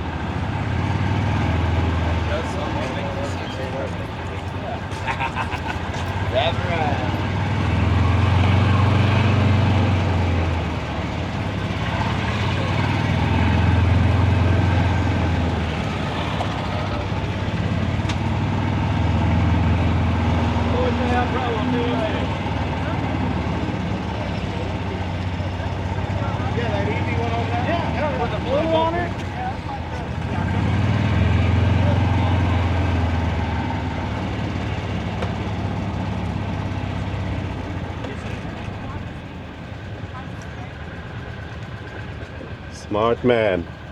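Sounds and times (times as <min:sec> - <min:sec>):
vehicle engine rumble: 0:00.0 - 0:43.9.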